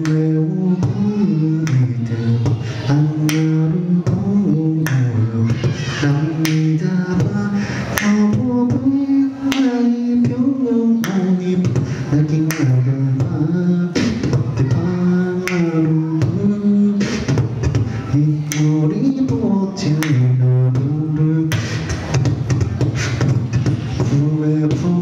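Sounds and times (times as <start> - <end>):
person beatboxing: 0.0 - 25.0.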